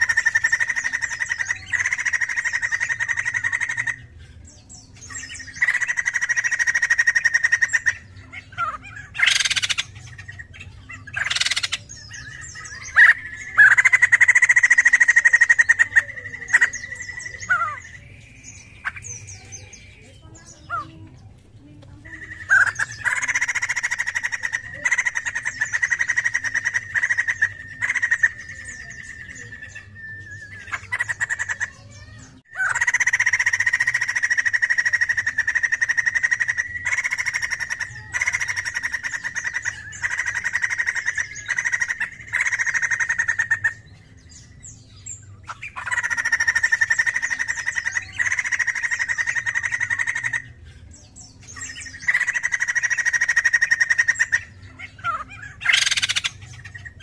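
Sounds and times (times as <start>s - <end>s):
bird rapid chattering calls: 0.0s - 57.0s.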